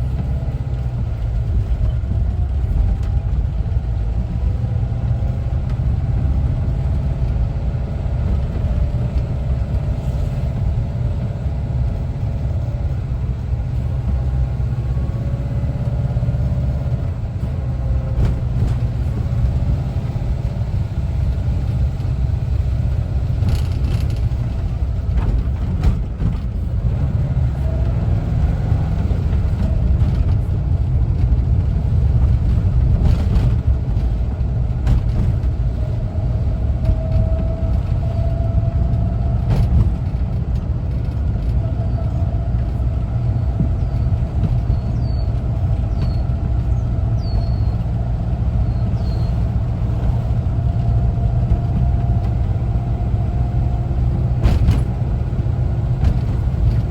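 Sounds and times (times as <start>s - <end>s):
low road rumble: 0.0s - 56.9s
van engine running: 0.0s - 56.9s.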